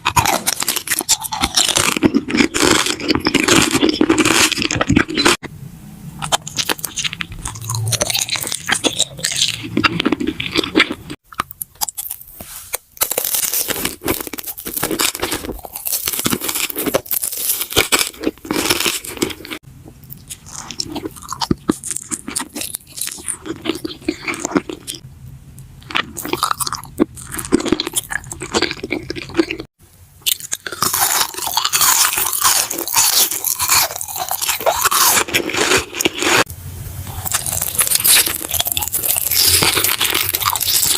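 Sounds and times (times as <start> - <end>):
crunchy eating and chewing: 0.0 - 5.5, 6.2 - 25.0, 25.6 - 40.9.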